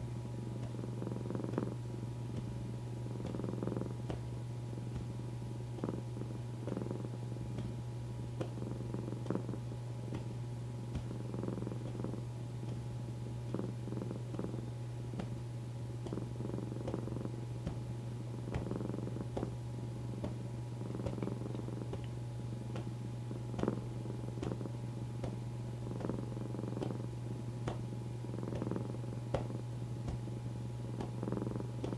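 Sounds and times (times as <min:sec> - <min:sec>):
cat purring: 0:00.0 - 0:31.9.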